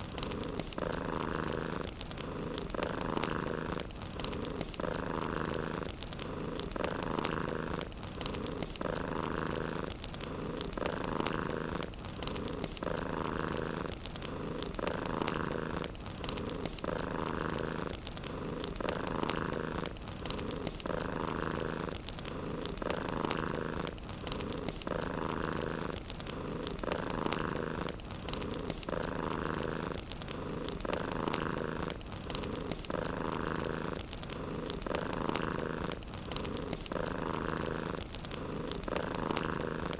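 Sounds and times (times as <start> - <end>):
cat purring: 0.0 - 39.9
wood fire crackling: 0.0 - 39.9.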